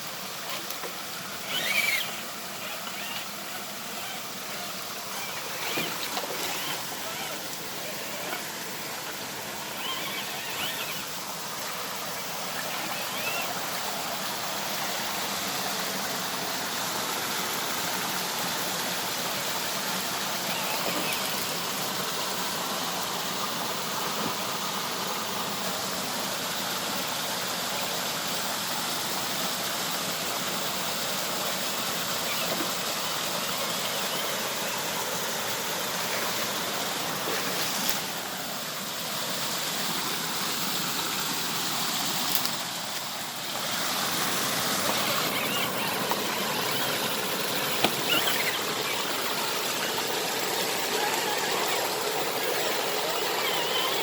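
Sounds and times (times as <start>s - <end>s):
river water rushing: 0.0s - 26.6s, 30.0s - 54.0s.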